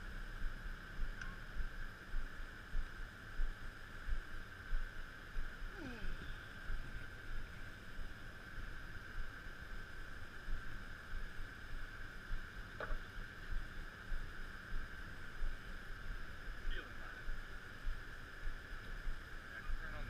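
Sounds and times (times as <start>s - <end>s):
high-pitched hum: 0.0s - 20.0s.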